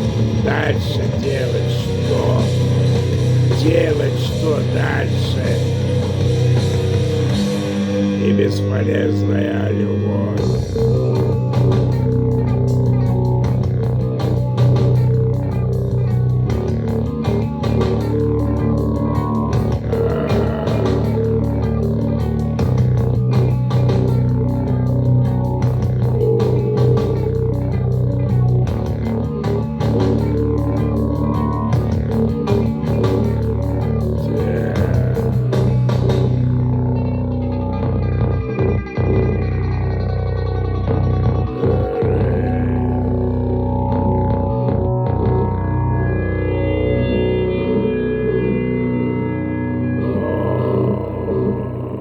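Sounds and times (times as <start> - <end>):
instrumental rock music: 0.0 - 52.0.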